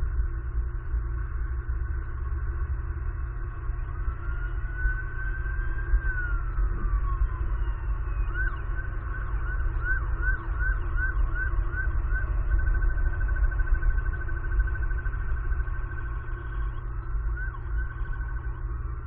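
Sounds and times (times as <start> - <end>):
emergency vehicle siren: 0.0 - 19.0
steady low rumble: 0.0 - 19.0.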